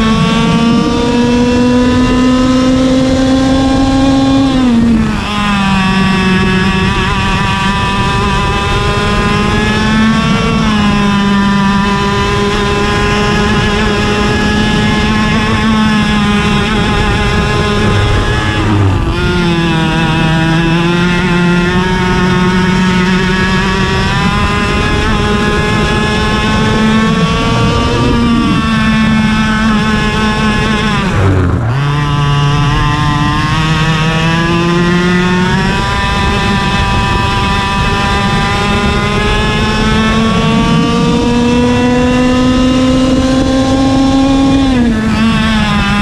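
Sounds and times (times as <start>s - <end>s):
kart engine at racing speed: 0.0s - 46.0s.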